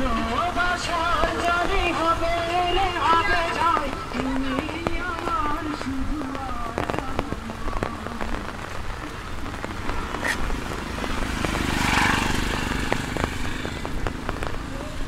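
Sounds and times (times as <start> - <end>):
rain on a wet street: 0.0 - 15.0.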